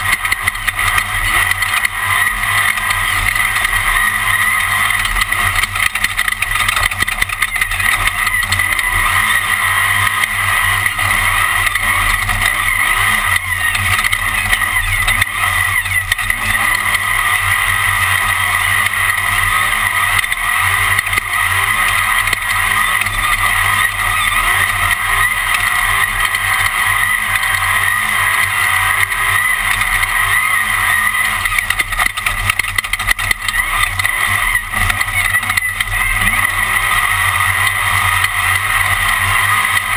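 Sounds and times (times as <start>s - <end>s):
race car engine: 0.0s - 39.9s
road and wind noise: 0.0s - 39.9s.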